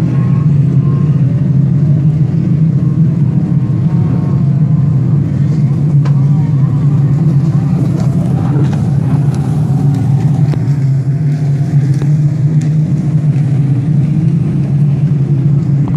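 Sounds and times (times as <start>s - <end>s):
watercraft engines droning: 0.0s - 15.9s.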